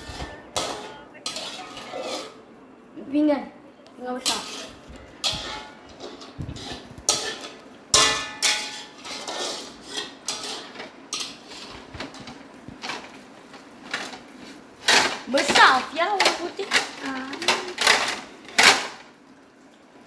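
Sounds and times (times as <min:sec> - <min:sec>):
dishes and utensils clattering: 0:00.0 - 0:02.5, 0:04.2 - 0:19.2.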